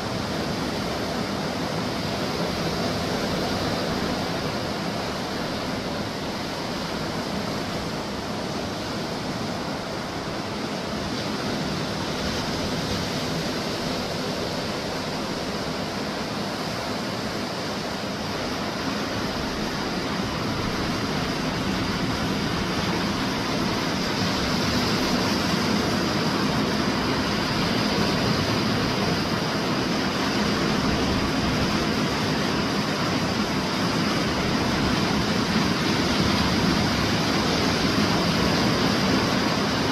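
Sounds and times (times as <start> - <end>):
surf washing onto sand: 0.0 - 39.9.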